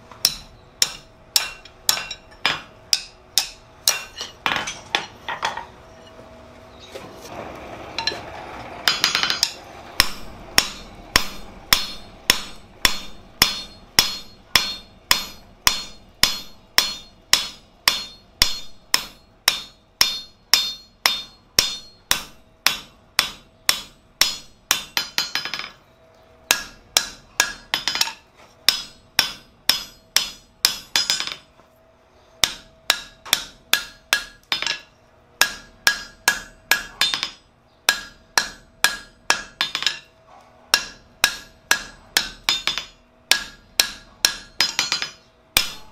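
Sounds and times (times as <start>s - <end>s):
hammer ringing on hot steel: 0.2s - 5.6s, 8.9s - 25.8s, 26.4s - 31.4s, 32.4s - 40.1s, 40.7s - 45.9s.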